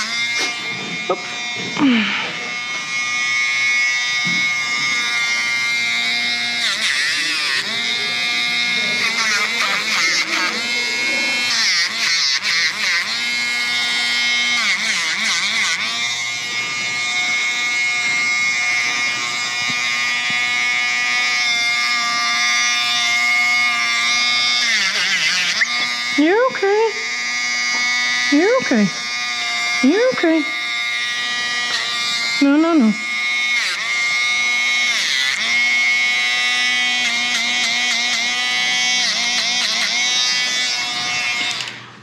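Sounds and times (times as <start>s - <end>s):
rotary nail grinder whining: 0.0s - 42.0s.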